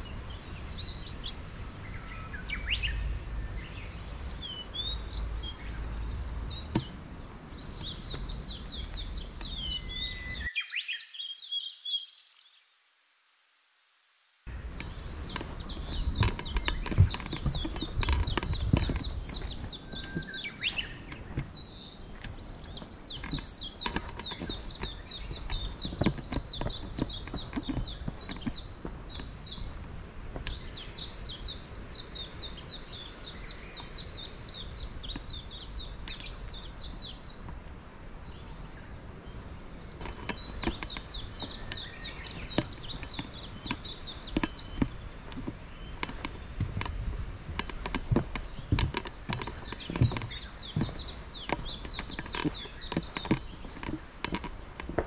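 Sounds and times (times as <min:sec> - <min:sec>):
songbird singing high chirps: 0:00.0 - 0:12.8, 0:14.5 - 0:55.0.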